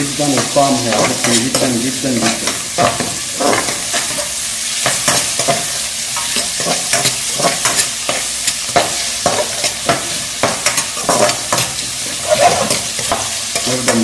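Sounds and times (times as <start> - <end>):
chicken sizzling in oil: 0.0 - 14.0
spatula scraping metal pan: 0.3 - 14.0.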